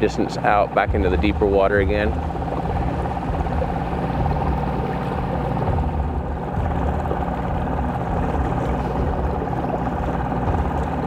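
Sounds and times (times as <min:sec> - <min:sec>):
boat motor whining: 0:00.0 - 0:11.0.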